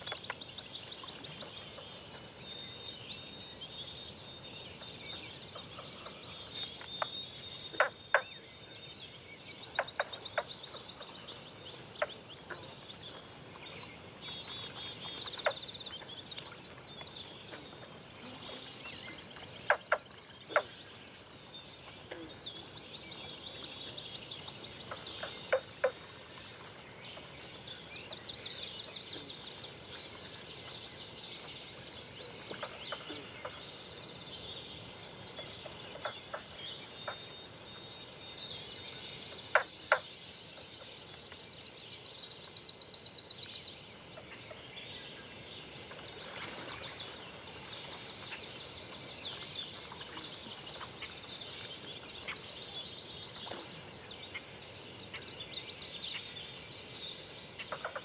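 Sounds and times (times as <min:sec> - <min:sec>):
birds singing with trills: 0:00.0 - 0:58.0.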